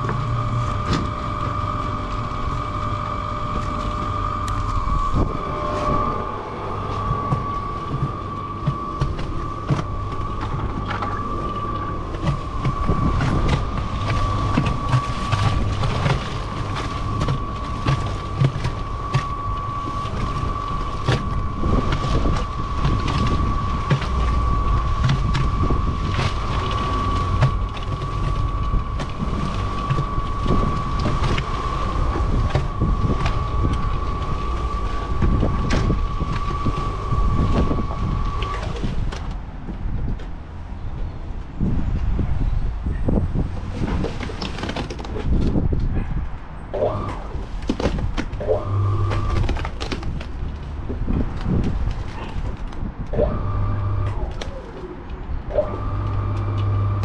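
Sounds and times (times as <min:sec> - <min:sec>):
cement mixer running: 0:00.0 - 0:39.4, 0:46.8 - 0:57.0.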